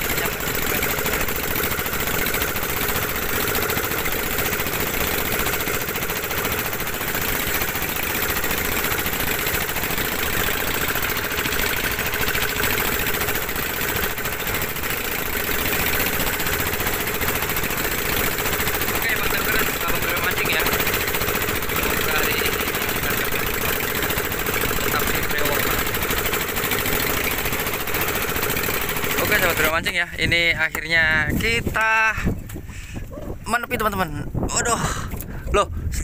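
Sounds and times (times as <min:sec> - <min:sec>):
boat engine running: 0:00.0 - 0:35.9.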